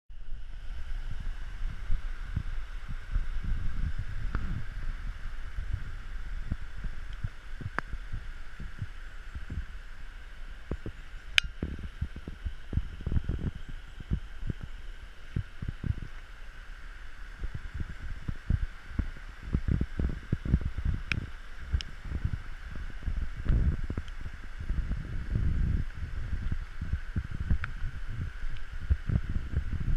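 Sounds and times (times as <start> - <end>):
rain hissing: 0.1 - 29.9
wind buffeting microphone: 0.1 - 29.9.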